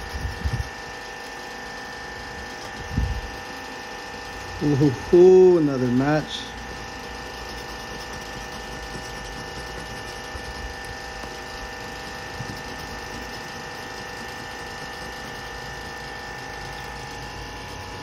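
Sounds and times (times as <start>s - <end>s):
steady background whine: 0.0s - 18.0s.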